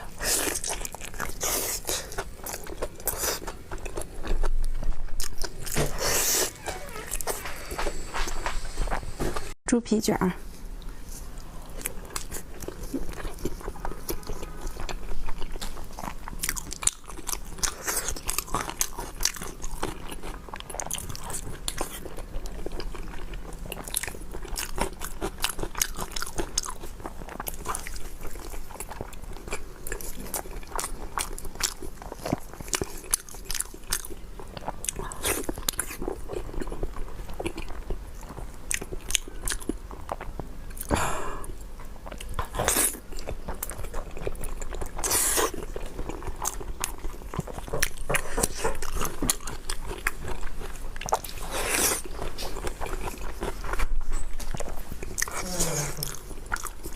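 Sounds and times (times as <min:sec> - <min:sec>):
chewing pork skin: 0:00.0 - 0:07.4, 0:10.8 - 0:56.9.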